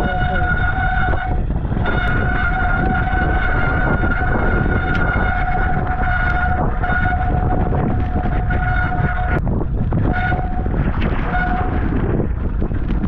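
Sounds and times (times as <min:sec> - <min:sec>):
low rumble of wind and riding: 0:00.0 - 0:13.0.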